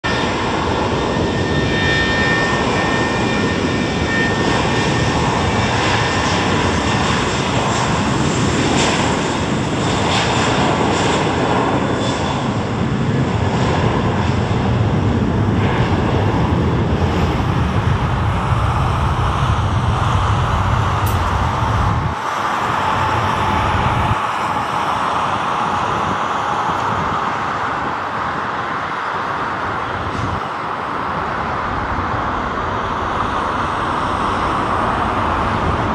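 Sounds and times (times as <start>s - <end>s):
high jet whine: 0.0s - 35.9s
jet engines roaring: 0.0s - 35.9s.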